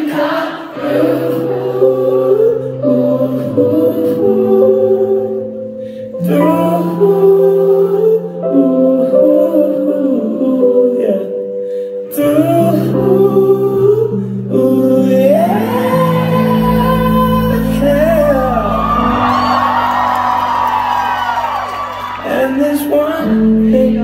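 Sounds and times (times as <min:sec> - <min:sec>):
person singing: 0:00.0 - 0:21.4, 0:22.1 - 0:24.0.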